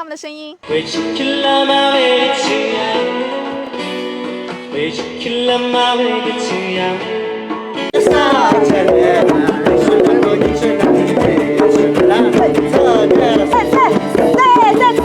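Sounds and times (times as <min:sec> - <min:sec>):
person singing: 0:00.6 - 0:07.1, 0:07.9 - 0:15.0
guitar accompaniment: 0:00.6 - 0:15.0.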